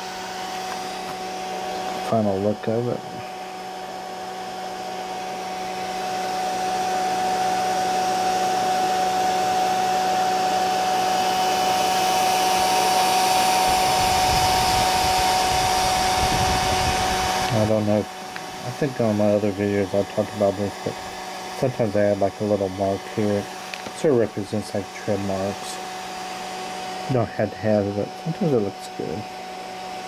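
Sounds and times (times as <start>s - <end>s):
electric fan whirring hum: 0.0s - 30.0s.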